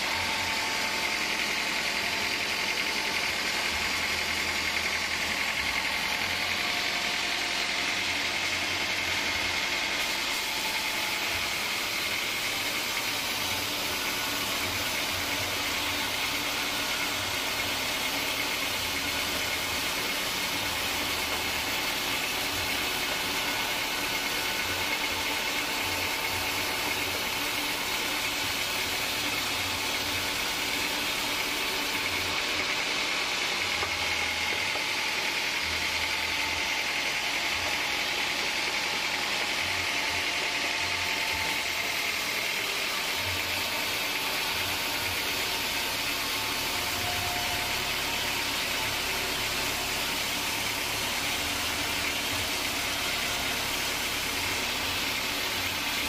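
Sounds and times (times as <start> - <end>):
band saw sawing log: 0.0 - 56.0.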